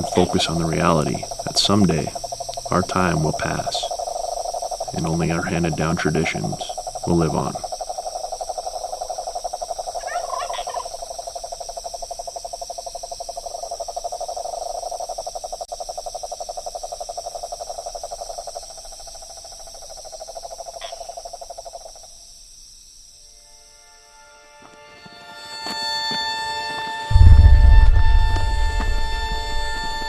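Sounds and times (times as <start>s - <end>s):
frogs trilling: 0.0s - 30.0s.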